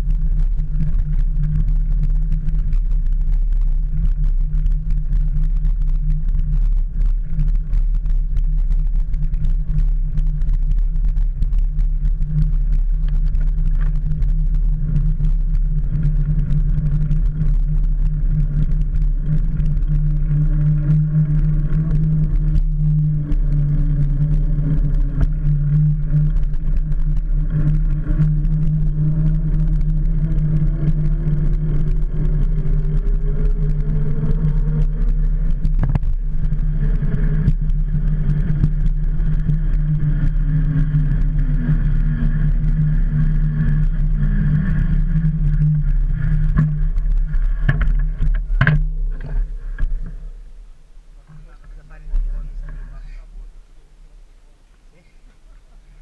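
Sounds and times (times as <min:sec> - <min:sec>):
bicycle road vibration: 0:00.0 - 0:56.0
wind rumble: 0:00.0 - 0:56.0.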